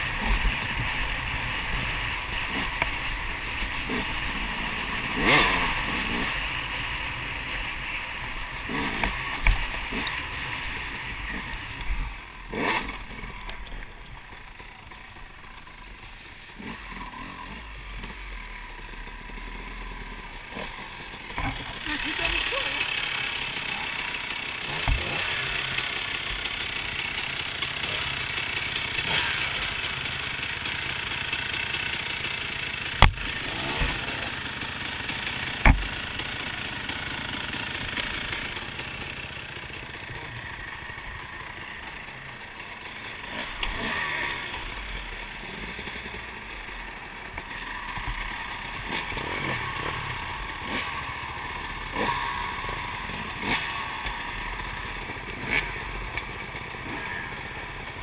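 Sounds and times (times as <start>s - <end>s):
dirt bike engines running: 0.0s - 58.0s.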